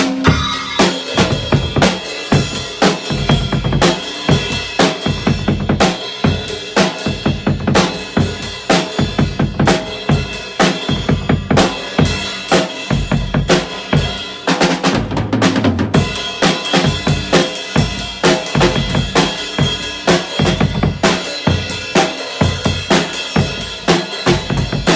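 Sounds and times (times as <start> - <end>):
drum kit fast beat: 0.0 - 24.9.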